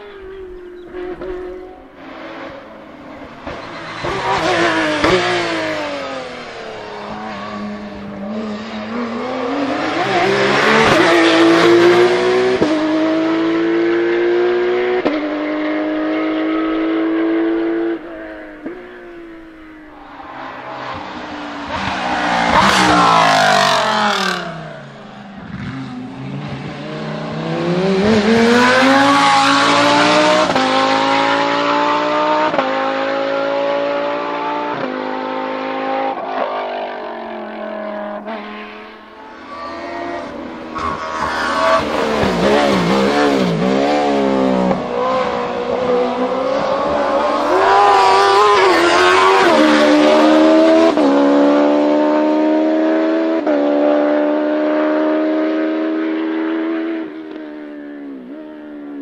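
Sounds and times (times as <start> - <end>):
race car passing close: 0.0 - 57.4
race car accelerating with upshifts: 0.0 - 59.0.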